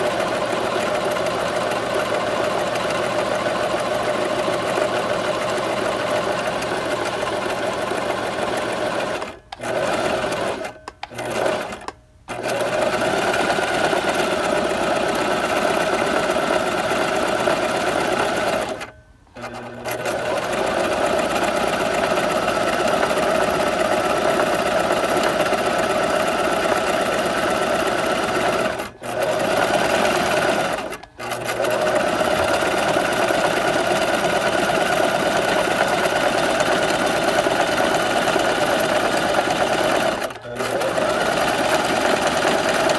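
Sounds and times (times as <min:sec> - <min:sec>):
electric sewing machine running: 0:00.0 - 0:42.9.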